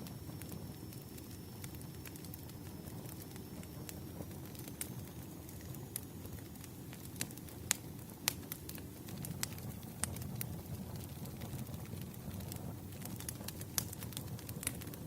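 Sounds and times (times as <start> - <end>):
campfire flames rustling: 0.0 - 15.0
fire popping and crackling: 0.0 - 15.0.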